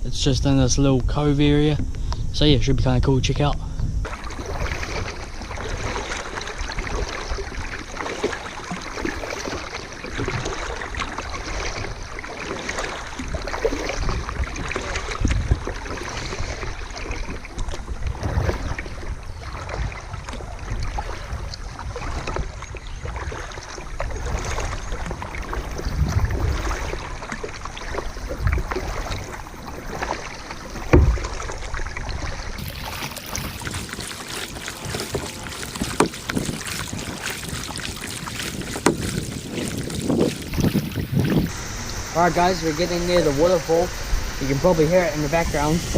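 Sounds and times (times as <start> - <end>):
wind buffeting microphone: 0.0 - 45.9
paddle splashing in water: 4.0 - 45.9.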